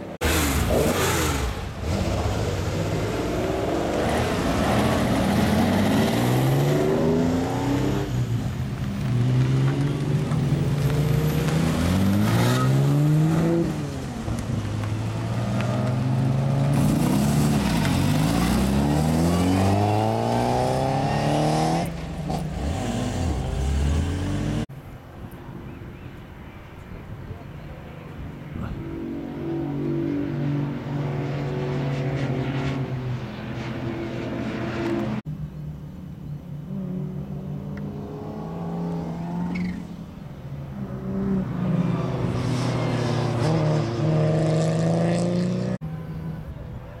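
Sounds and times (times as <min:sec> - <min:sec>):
race car engines accelerating: 0:00.0 - 0:24.7, 0:27.3 - 0:35.2, 0:36.6 - 0:47.0.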